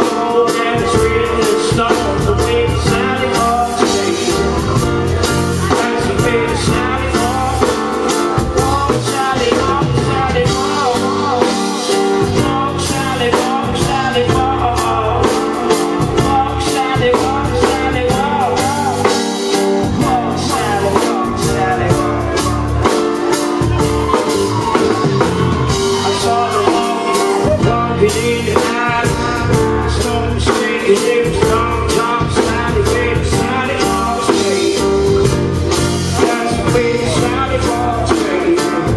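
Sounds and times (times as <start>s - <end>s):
drums: 0.0s - 38.9s
live band playing: 0.0s - 38.9s
man singing: 0.0s - 38.9s
organ-style keyboards: 0.0s - 38.9s.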